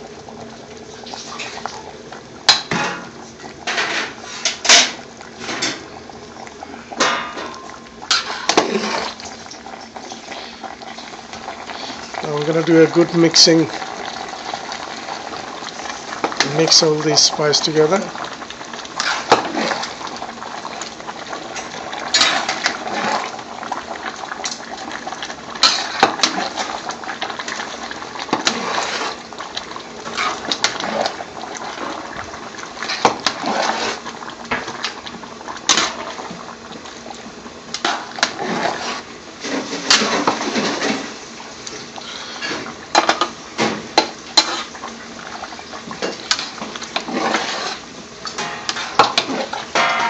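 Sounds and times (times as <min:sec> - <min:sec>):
gravy sloshing while stirred: 0:00.0 - 0:49.8.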